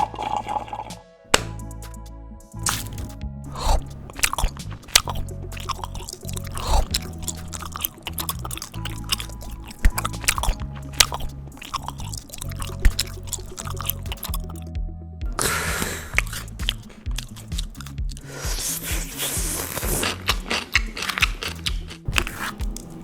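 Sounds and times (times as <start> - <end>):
background music with beat: 0.0 - 23.0
crunchy chewing: 2.6 - 14.6, 15.3 - 23.0.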